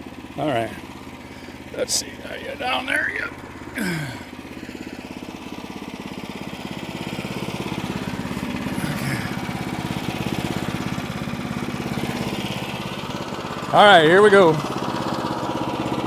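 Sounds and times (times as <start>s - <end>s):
small gasoline engine running: 0.0s - 16.0s.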